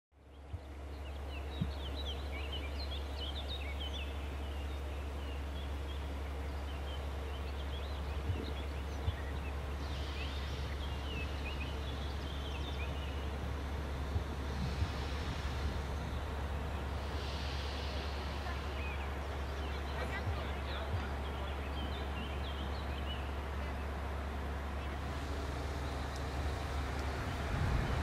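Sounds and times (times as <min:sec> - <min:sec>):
songbirds chirping: 0:00.1 - 0:28.0
steady low rumble: 0:00.2 - 0:28.0.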